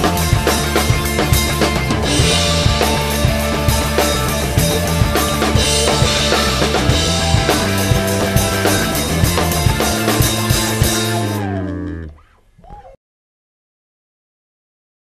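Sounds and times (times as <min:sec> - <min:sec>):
rock band playing instrumental: 0:00.0 - 0:12.1.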